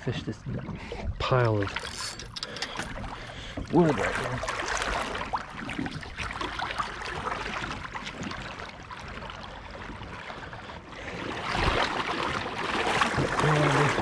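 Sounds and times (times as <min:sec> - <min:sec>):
water sloshing around a kayak: 0:00.0 - 0:14.0.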